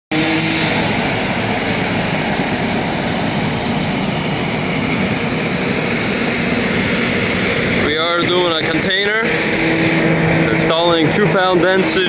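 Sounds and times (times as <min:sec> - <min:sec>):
machinery running: 0:00.1 - 0:12.0.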